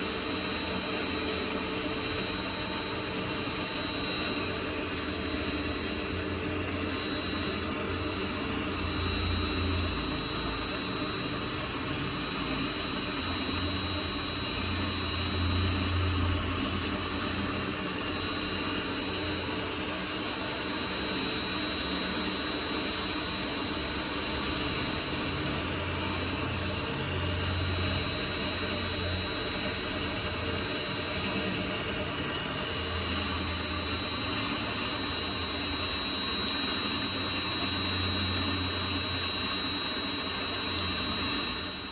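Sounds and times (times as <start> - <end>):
lathe motor high whine: 0.0 - 41.9.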